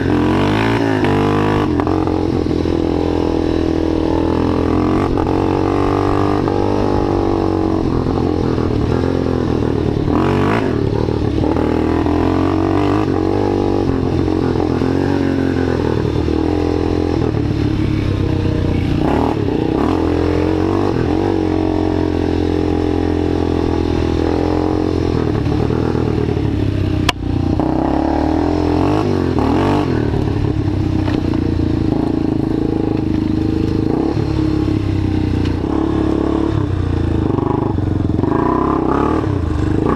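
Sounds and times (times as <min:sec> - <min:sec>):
small quad engine revving: 0:00.0 - 0:39.9.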